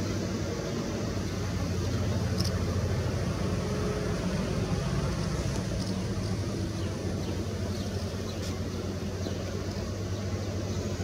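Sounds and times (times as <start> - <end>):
distant train rumble and hum: 0.0 - 11.0.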